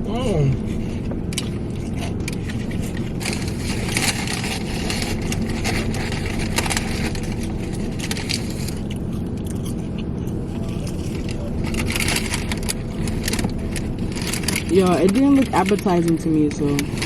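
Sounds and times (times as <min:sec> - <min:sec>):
vehicle engine hum: 0:00.0 - 0:17.0
rustling crackles: 0:00.5 - 0:17.0.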